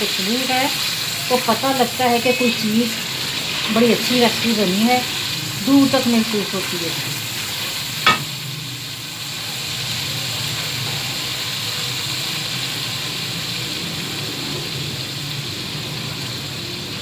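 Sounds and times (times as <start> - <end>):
curry sizzling in a pan: 0.0 - 17.0.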